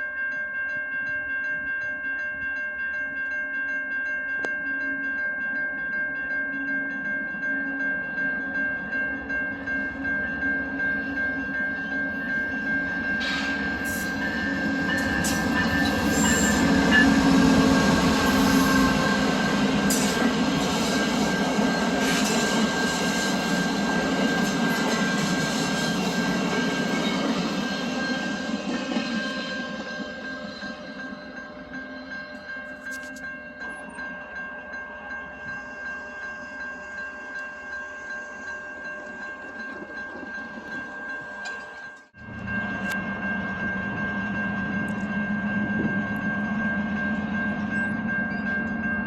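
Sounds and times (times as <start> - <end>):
steady high tone: 4.4 - 49.0
train passing on rails: 6.9 - 49.0.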